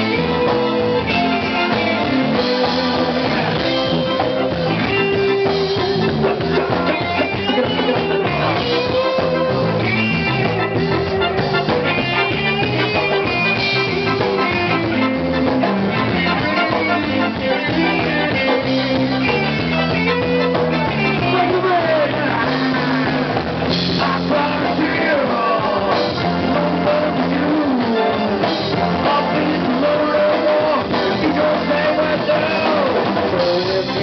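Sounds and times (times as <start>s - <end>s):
bass line: 0.0s - 34.0s
bending lead melody: 0.0s - 34.0s
drums: 0.0s - 34.0s.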